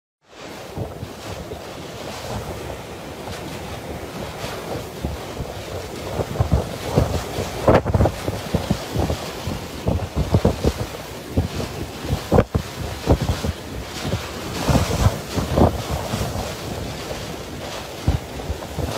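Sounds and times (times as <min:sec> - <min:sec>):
wind buffeting microphone: 0:00.4 - 0:18.9.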